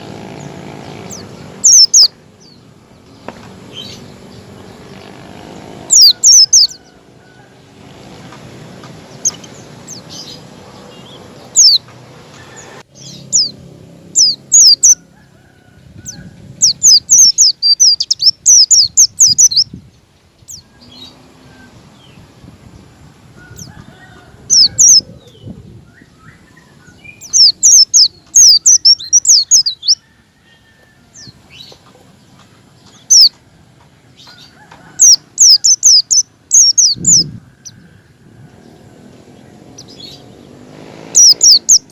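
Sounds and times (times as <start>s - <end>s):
bird chirping: 0.0s - 15.2s, 16.0s - 22.8s, 23.4s - 33.4s, 34.1s - 41.9s.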